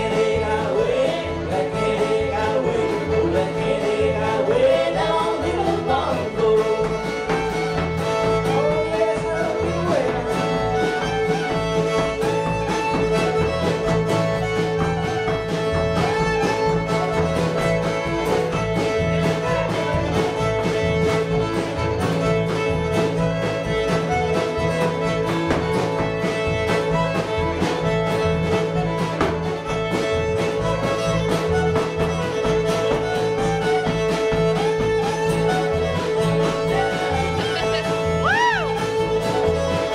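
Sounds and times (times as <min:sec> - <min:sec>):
fiddle: 0:00.0 - 0:39.9
strummed acoustic guitar: 0:00.0 - 0:39.9
upright bass: 0:00.0 - 0:39.9.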